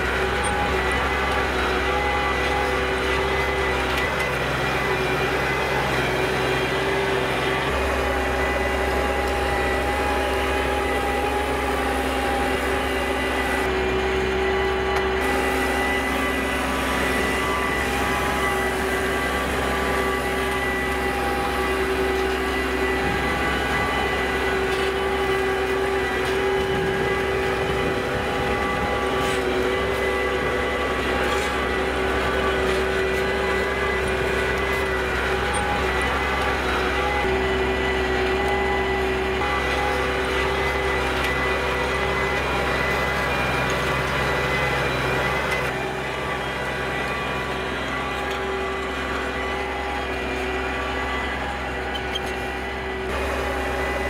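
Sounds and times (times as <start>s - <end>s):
steady whine: 0.0s - 54.0s
tractor engine under load: 0.0s - 54.0s.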